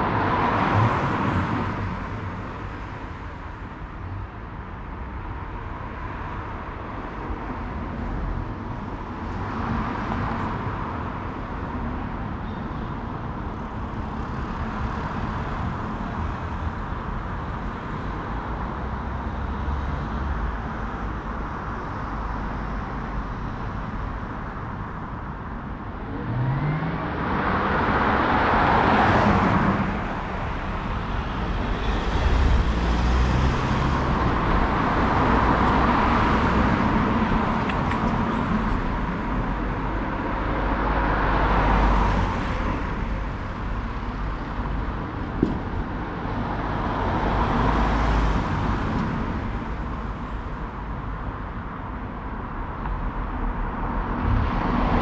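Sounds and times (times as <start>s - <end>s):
cars passing: 0.0s - 12.2s, 13.2s - 55.0s
low traffic rumble: 0.0s - 55.0s.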